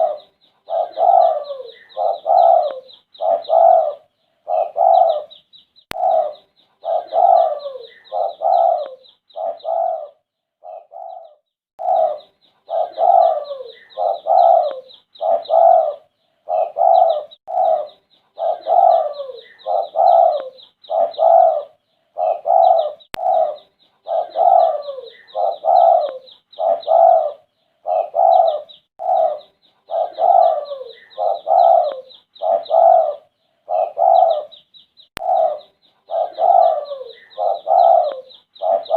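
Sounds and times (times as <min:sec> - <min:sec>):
dove cooing: 0:00.0 - 0:34.6, 0:35.2 - 0:38.9
small birds chirping: 0:00.0 - 0:38.9.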